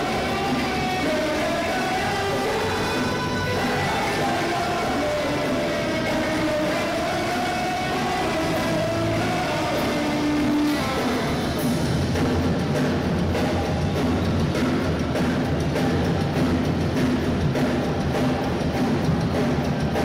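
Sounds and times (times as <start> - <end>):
bass guitar: 0.0 - 20.0
distorted electric guitar: 0.0 - 20.0
drum kit beat: 0.0 - 20.0.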